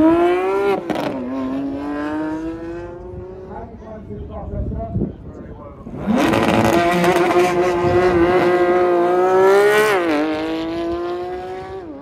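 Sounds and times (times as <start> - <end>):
sports car engine accelerating: 0.0 - 3.5, 5.8 - 12.0.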